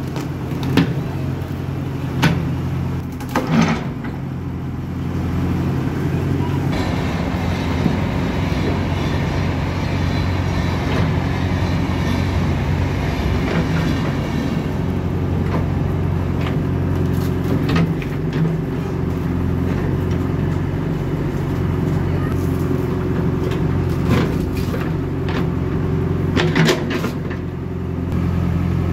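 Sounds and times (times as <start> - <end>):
diesel engine under load: 0.0 - 28.9.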